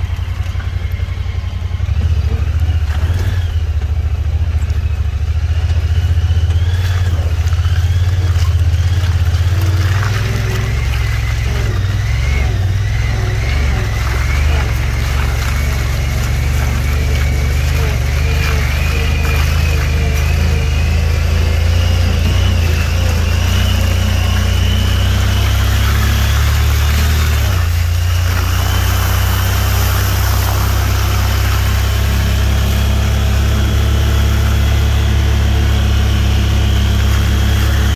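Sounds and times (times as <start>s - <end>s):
atv engine running: 0.0s - 37.9s.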